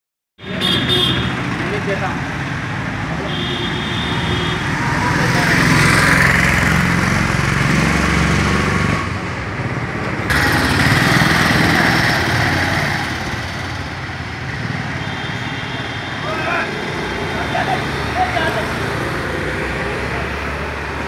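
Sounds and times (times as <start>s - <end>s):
street noise: 0.4s - 21.0s.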